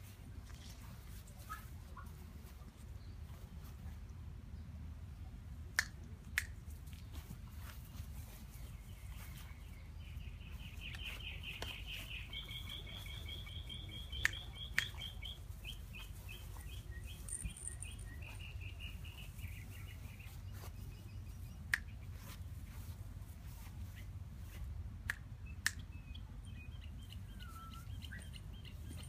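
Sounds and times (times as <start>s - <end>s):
songbird chirping: 0.3s - 29.0s.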